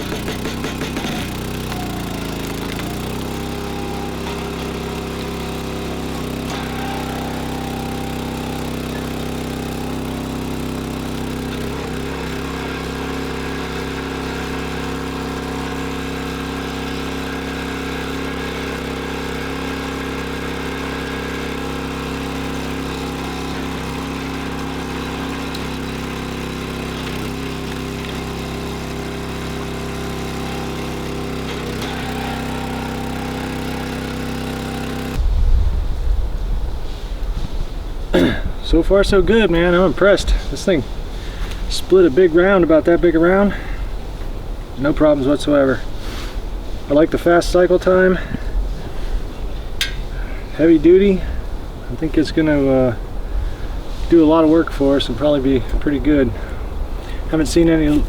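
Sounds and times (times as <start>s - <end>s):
small gasoline engine running: 0.0s - 35.3s, 39.1s - 58.0s.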